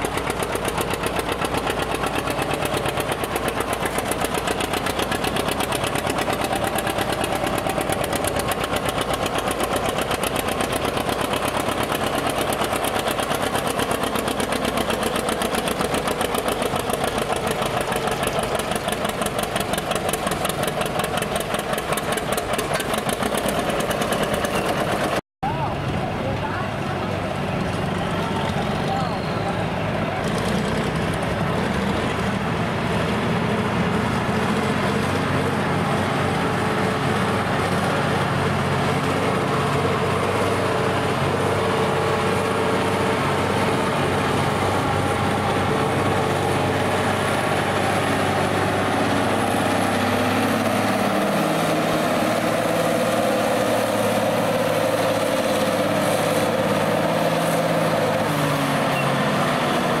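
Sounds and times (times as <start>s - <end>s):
tractor engine running under load: 0.0s - 60.0s.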